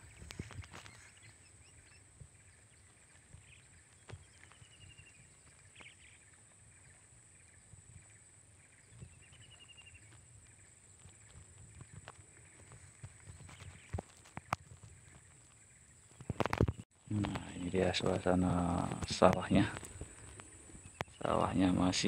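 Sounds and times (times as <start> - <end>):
bird chirp: 0.0 - 22.0.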